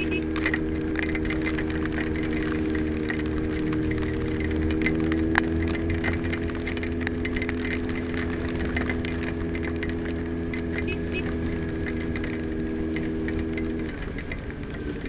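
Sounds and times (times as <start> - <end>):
motorcycle engine running: 0.0 - 15.0
rain noise: 0.0 - 15.0.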